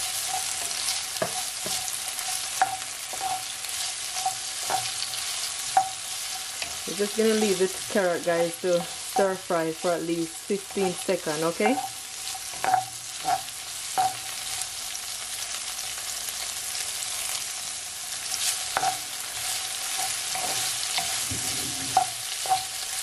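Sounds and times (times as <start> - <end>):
wooden spoon scraping a pan: 0.0 - 14.2, 18.3 - 22.8
vegetables sizzling in oil: 0.0 - 23.0.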